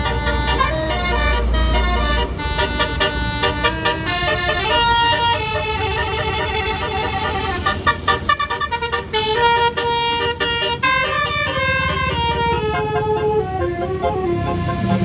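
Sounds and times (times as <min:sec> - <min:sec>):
bus engine running: 0:00.0 - 0:15.0
bus horn playing a tune: 0:00.0 - 0:15.0.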